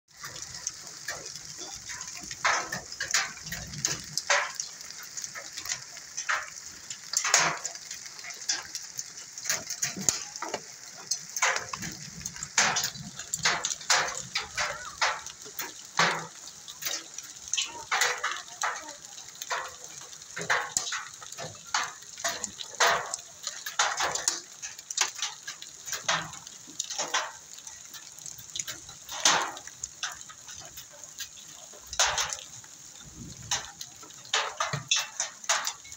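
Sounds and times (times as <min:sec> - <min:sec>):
hailstones cracking: 0:00.1 - 0:35.9
heavy rain hiss: 0:00.2 - 0:35.9.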